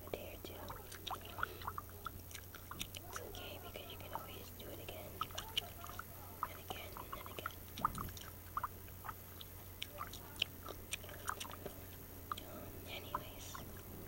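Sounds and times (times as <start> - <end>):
gum chewing: 0.0 - 14.0.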